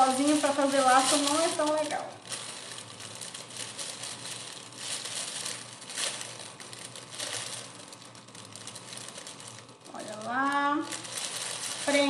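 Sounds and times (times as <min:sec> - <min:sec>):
cellophane wrap crinkling: 0:00.0 - 0:12.0.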